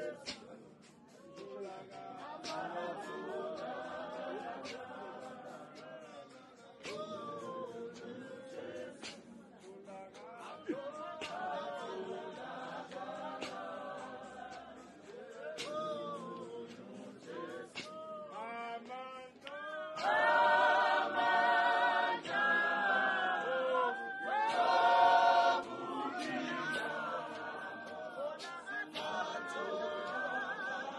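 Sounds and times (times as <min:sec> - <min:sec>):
choir singing a hymn: 0:01.4 - 0:09.6, 0:10.4 - 0:17.9, 0:19.6 - 0:30.9.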